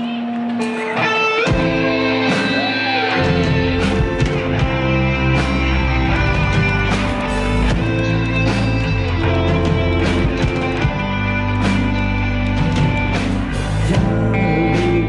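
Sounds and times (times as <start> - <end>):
band music with electric guitar: 0.0 - 15.0.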